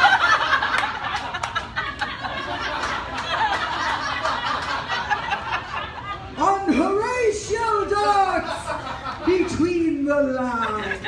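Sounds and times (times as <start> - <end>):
audience laughing: 0.0 - 6.8, 7.9 - 11.0.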